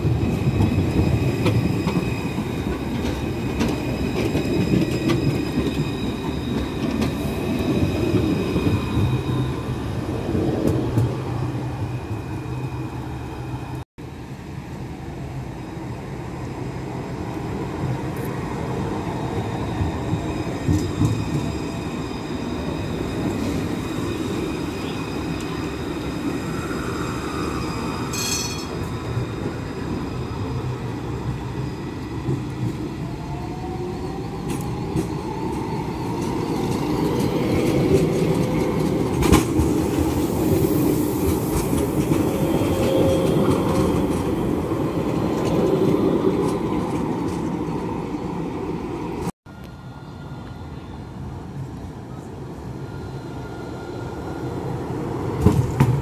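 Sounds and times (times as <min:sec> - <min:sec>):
tram rumbling on track: 0:00.0 - 0:56.0.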